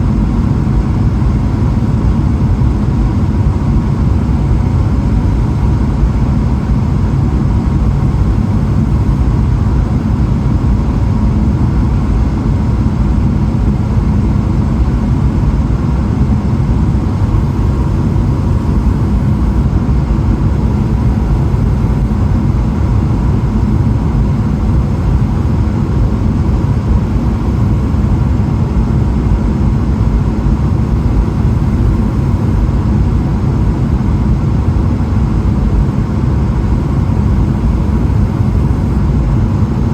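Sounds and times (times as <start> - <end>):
faint steady tone: 0.0 - 32.8
airplane cabin engine roar: 0.0 - 39.9.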